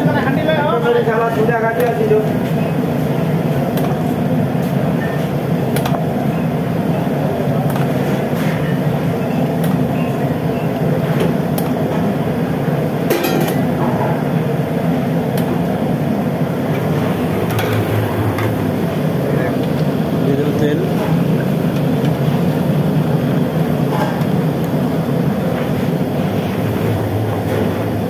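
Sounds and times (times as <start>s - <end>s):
low rumbling kitchen noise: 0.0s - 28.0s.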